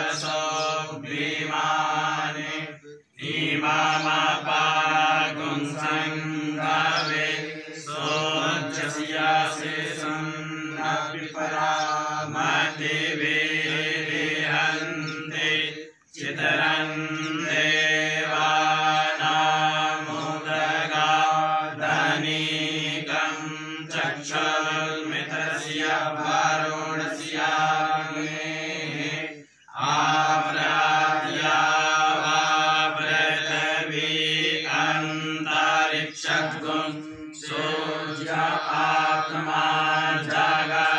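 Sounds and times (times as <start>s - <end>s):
men chanting mantras: 0.0s - 40.9s.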